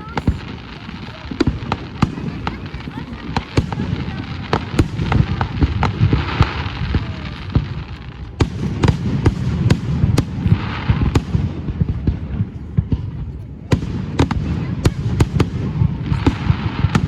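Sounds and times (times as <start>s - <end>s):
fireworks bangs and pops: 0.0s - 17.0s
low rumble of echoing reports: 0.0s - 17.0s.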